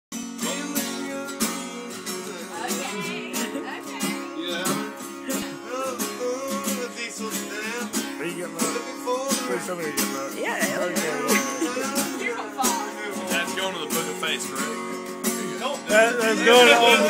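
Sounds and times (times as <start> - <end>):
strummed acoustic guitar music: 0.1 - 17.0
person singing: 0.4 - 17.0.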